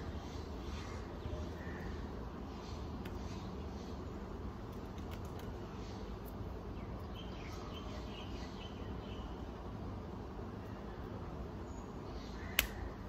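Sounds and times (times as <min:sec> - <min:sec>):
low background hum and hiss: 0:00.0 - 0:13.0.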